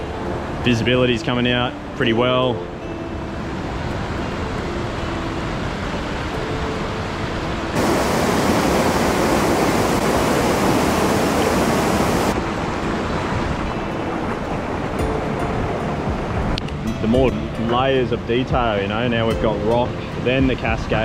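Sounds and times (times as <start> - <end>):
river rapids rushing: 3.1 - 21.0.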